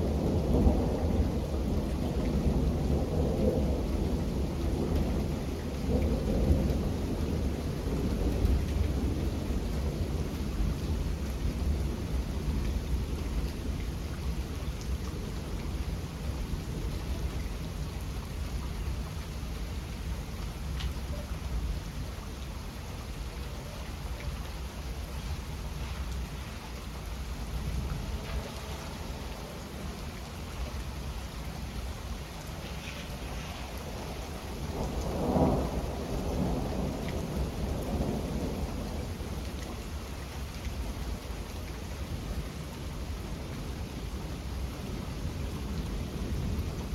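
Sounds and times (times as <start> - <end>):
thunder rumbling: 0.0 - 19.1, 25.2 - 46.9
steady rain: 0.0 - 46.9.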